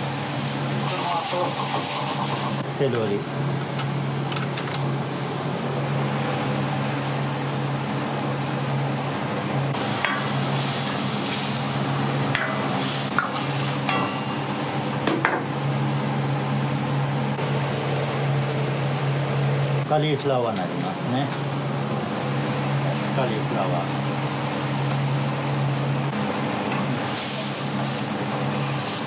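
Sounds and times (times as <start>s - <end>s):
sauce sizzling in wok: 0.0s - 2.6s, 6.0s - 19.8s, 21.5s - 29.0s.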